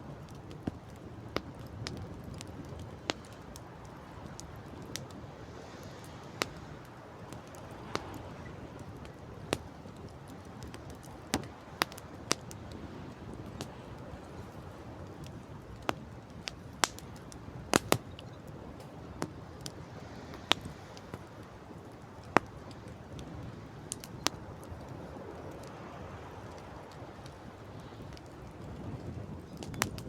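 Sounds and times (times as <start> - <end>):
campfire crackling and popping: 0.0 - 30.0
sea: 0.0 - 30.0
wind: 0.0 - 30.0.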